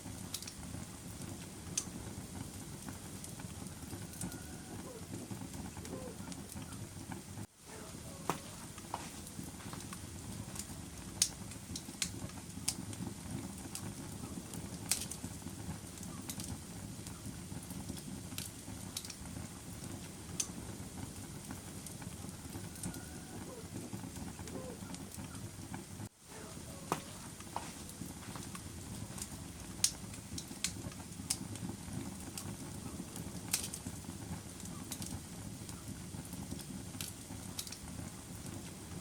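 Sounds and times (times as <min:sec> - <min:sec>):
fire burning rumble: 0:00.0 - 0:39.0
wood fire popping: 0:00.0 - 0:39.0.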